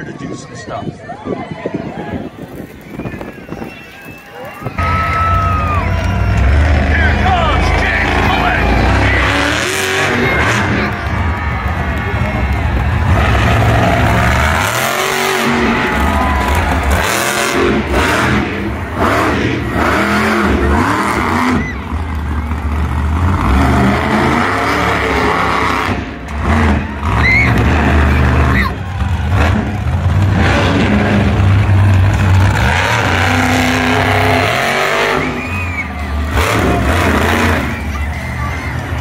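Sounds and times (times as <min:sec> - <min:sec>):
monster truck engine revving: 0:04.5 - 0:39.0.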